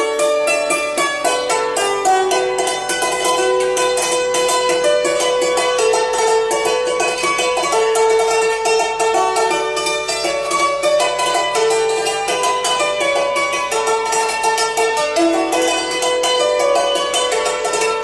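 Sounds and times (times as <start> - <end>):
plucked string music: 0.0 - 18.0.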